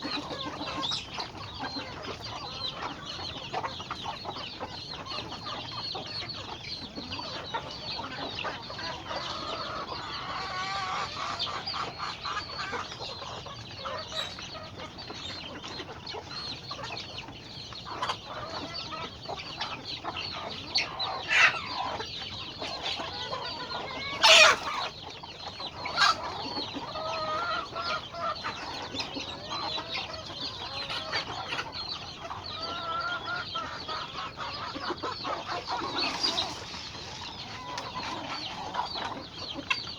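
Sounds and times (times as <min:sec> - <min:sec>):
chickens clucking: 0:00.0 - 0:39.9
loud sharp chicken calls: 0:00.0 - 0:39.9.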